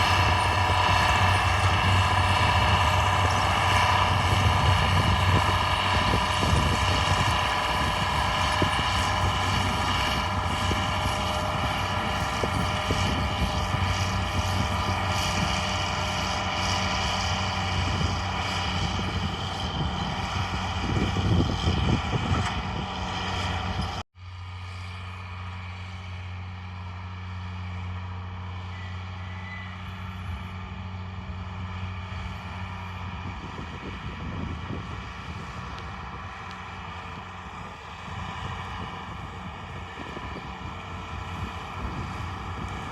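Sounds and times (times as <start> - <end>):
tractor diesel engine humming: 0.0 - 24.0, 25.1 - 42.9.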